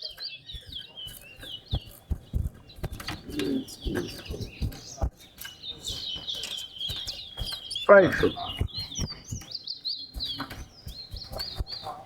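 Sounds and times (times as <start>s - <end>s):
finch warbling song: 0.0s - 12.0s.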